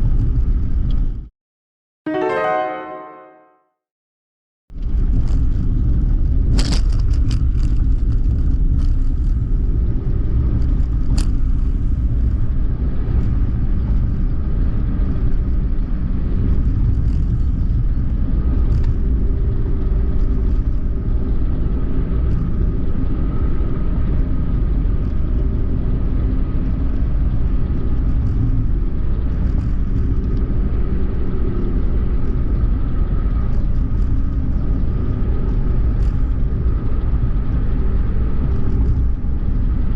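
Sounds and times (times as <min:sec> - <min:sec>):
car engine and tyre rumble: 0:00.0 - 0:01.3, 0:04.7 - 0:39.9.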